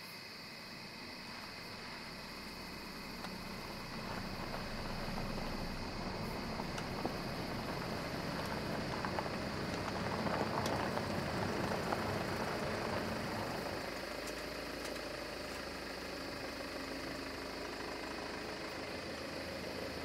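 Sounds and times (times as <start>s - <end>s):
distant car engine running: 0.7s - 20.0s.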